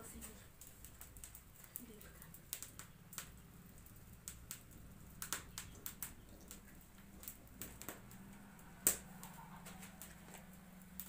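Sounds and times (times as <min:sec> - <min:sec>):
faint clicks and crackles: 0:00.0 - 0:11.0.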